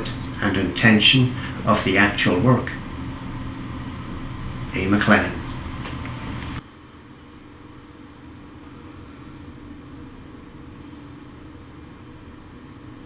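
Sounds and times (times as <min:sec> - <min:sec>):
faint hum: 0:00.0 - 0:13.0
low rumble and hiss: 0:00.0 - 0:13.0.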